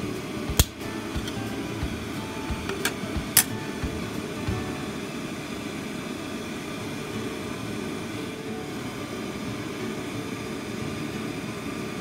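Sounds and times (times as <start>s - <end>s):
mechanical whir of a fan: 0.0s - 12.0s.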